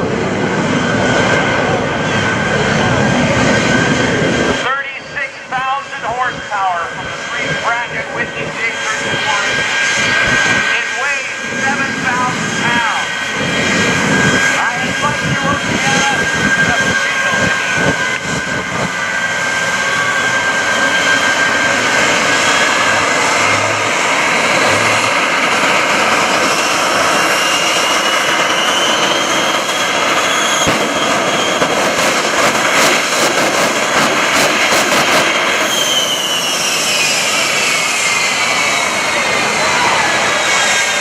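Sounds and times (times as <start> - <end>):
jet engine whine: 0.0 - 41.0
jet engines roaring: 0.0 - 41.0.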